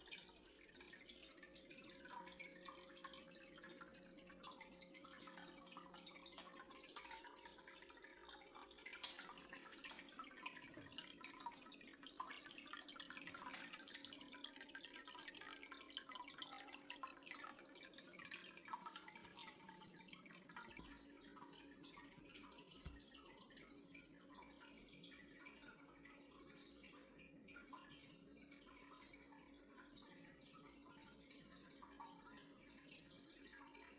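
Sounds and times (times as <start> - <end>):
water dripping and trickling: 0.0 - 33.9.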